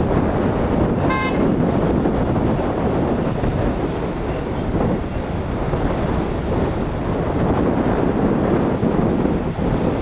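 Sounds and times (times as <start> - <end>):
highway traffic rumble: 0.0 - 10.0
wind buffeting microphone: 0.0 - 10.0.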